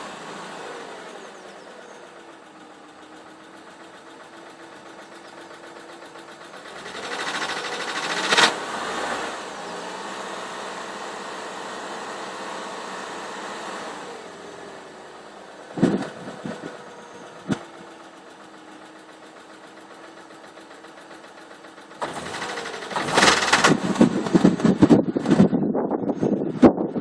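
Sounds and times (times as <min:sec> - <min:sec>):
engine knocking rattle: 0:00.0 - 0:13.2, 0:14.0 - 0:27.0
car engine running: 0:00.0 - 0:27.0.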